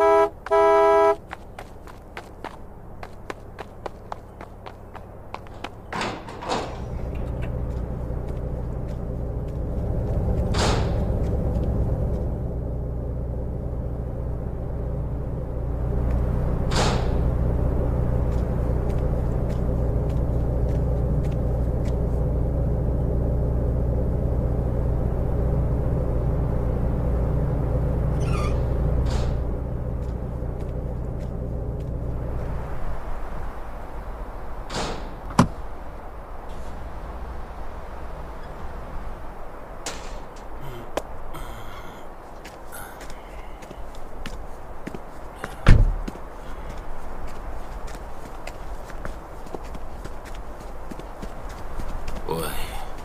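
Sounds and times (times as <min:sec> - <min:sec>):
suv engine idling: 0:00.0 - 0:32.5, 0:40.3 - 0:53.0.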